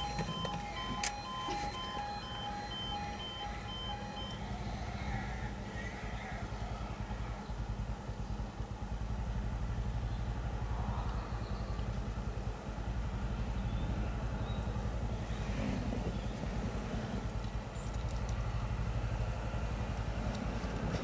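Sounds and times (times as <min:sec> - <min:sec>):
low vehicle engine rumble: 0:00.0 - 0:21.0.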